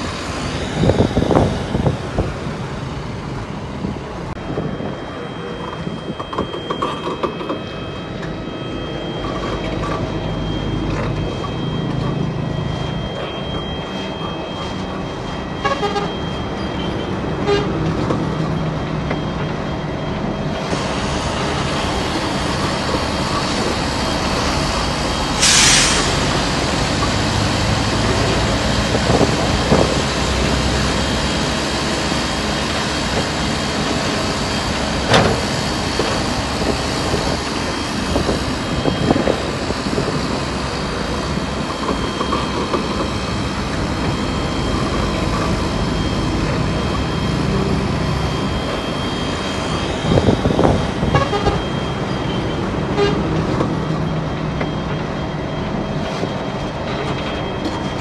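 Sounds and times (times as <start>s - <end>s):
diesel machinery engines running: 0.0s - 58.0s.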